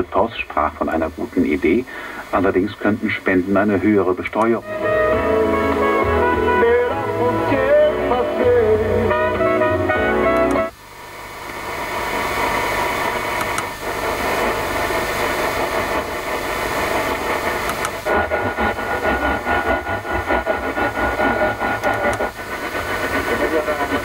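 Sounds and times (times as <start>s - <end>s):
radio static between stations: 0.0s - 24.0s.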